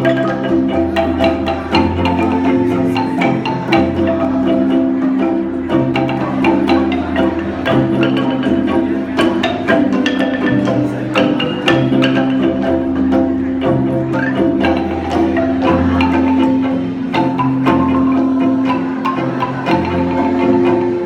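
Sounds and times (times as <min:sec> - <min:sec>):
wooden xylophone ensemble: 0:00.0 - 0:21.0.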